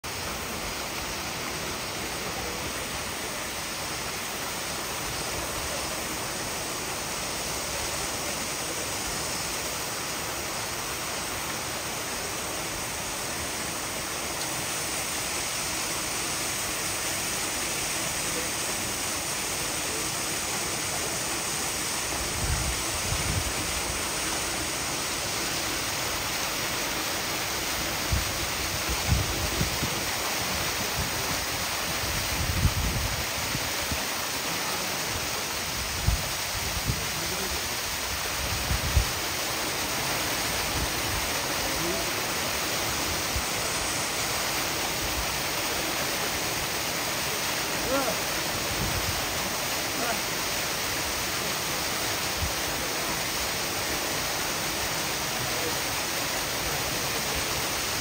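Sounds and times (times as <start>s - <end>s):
waterfall pouring into a pool: 0.0s - 58.0s.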